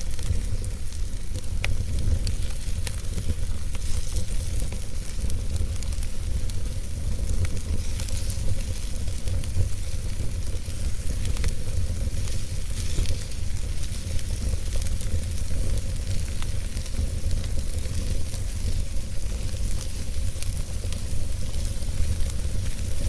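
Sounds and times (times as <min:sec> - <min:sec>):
fire crackles and pops: 0:00.0 - 0:23.0
low rumble of flames: 0:00.0 - 0:23.0.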